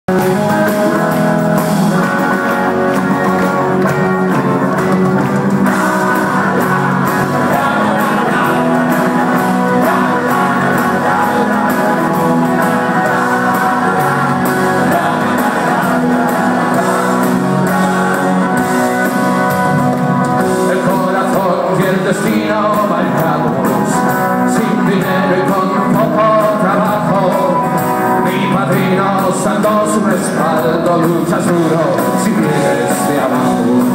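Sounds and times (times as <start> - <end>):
rock band playing live: 0.1 - 33.9.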